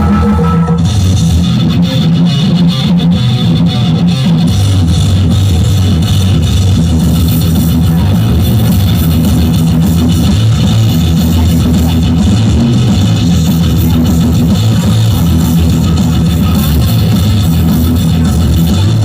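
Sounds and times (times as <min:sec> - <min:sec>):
loud music with guitar and drums: 0:00.0 - 0:19.0.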